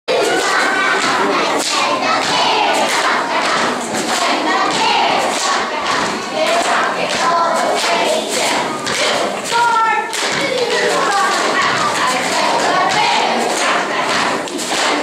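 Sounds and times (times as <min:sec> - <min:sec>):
girls chanting a cheer: 0:00.1 - 0:15.0.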